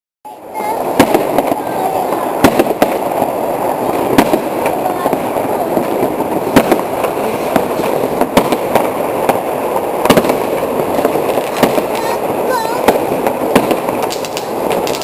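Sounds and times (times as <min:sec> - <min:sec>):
distant fireworks crackling: 0:00.3 - 0:15.0
loud firecracker bangs: 0:00.6 - 0:15.0.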